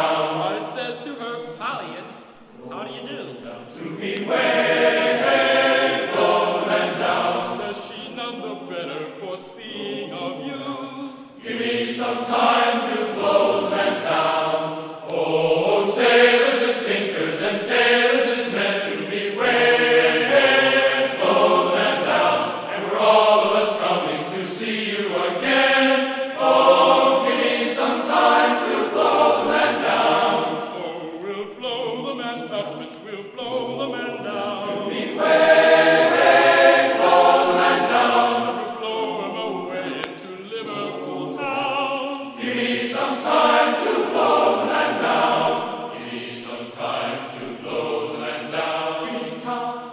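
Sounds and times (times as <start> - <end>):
choir singing in harmony: 0.0 - 1.5, 2.2 - 49.9.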